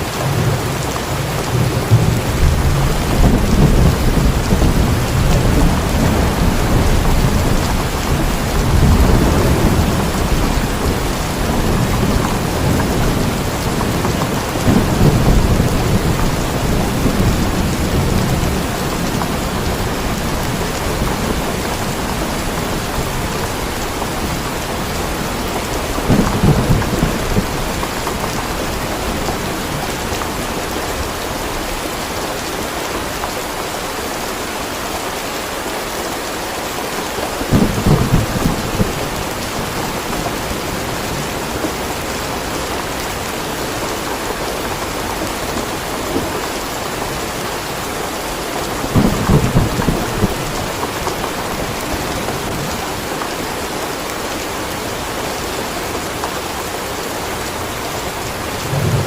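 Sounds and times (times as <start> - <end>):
low thunder rumbles: 0.0 - 32.2, 37.4 - 53.6, 58.0 - 59.0
steady rain hiss: 0.0 - 59.0.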